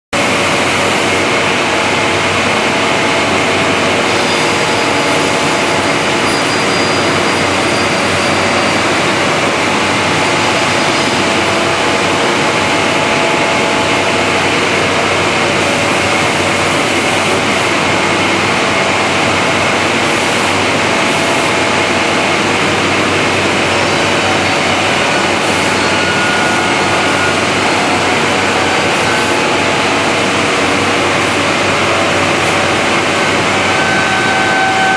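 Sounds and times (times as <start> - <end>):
cutting machine whirring: 0.2 - 34.9.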